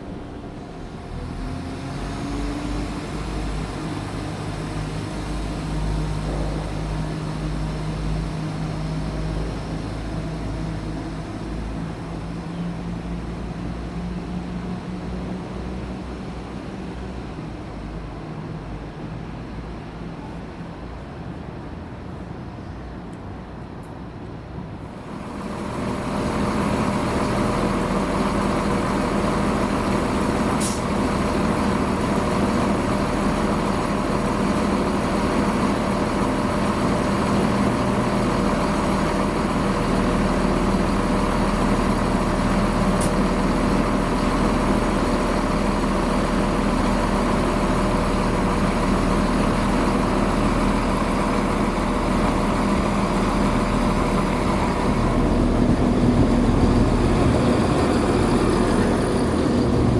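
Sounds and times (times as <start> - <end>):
diesel train engine running: 0.0 - 59.9.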